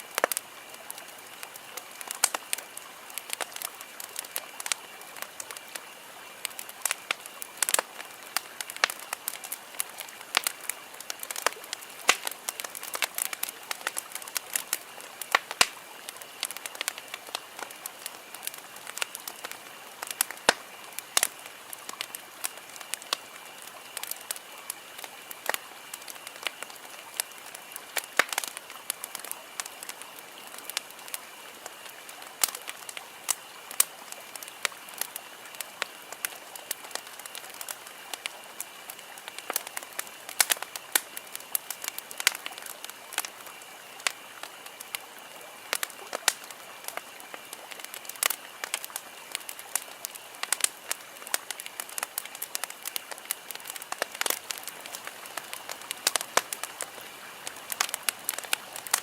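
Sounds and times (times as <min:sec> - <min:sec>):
campfire crackling and popping: 0:00.0 - 0:59.0
soft hiss of burning: 0:00.0 - 0:59.0.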